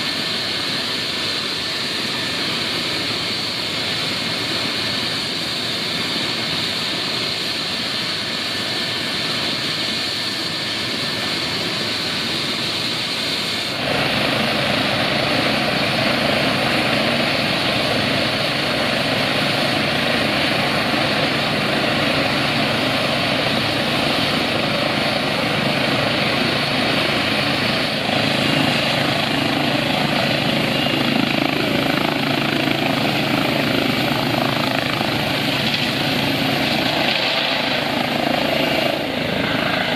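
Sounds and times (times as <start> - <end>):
helicopter turbines and rotor: 0.0 - 39.9
high turbine whine: 0.0 - 39.9.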